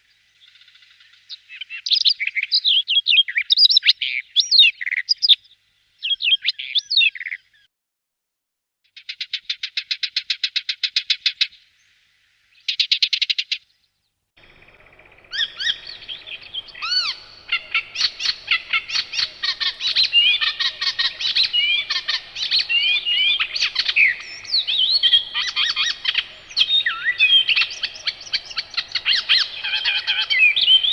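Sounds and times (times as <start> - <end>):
bird singing varied song: 0.0 - 7.7, 8.9 - 30.9.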